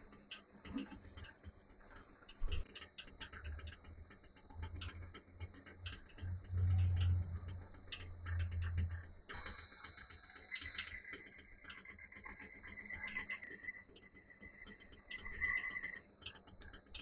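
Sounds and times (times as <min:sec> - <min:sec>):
rapid uneven ticking: 0:00.0 - 0:17.0.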